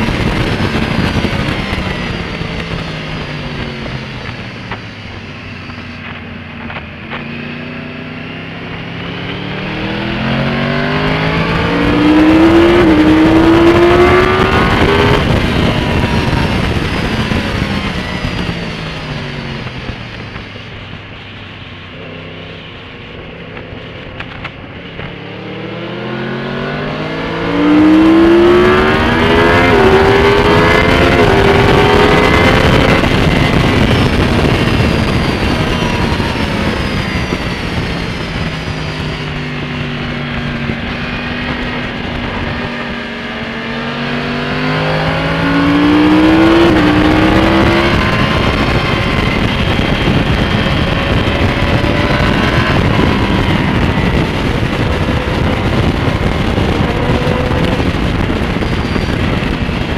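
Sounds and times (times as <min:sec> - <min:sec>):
wind rush on microphone: 0:00.0 - 0:07.6, 0:08.6 - 0:59.9
motorcycle engine accelerating hard: 0:00.0 - 0:59.9.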